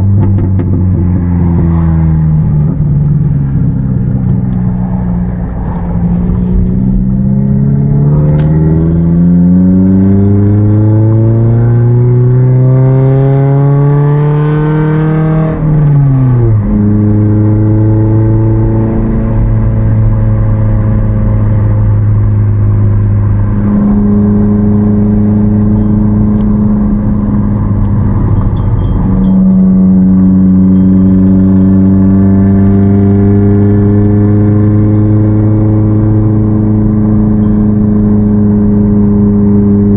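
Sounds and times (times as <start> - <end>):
car exhaust accelerating: 0.0 - 39.9.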